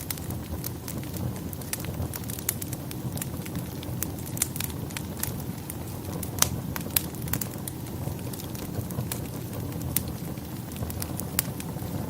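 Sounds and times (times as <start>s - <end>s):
steady low rumble: 0.0s - 12.0s
wood fire crackling: 0.0s - 12.0s.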